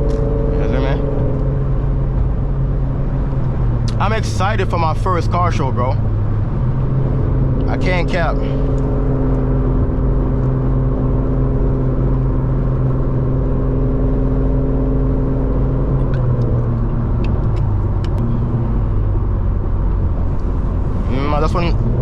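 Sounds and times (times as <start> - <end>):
car engine drone: 0.0 - 22.0
road noise: 0.0 - 22.0.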